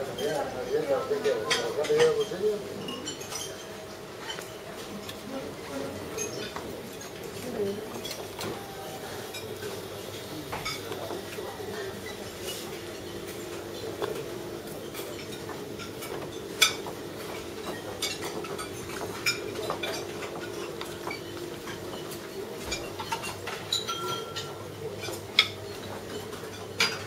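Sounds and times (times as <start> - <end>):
plates and utensils clinking: 0.0 - 27.0.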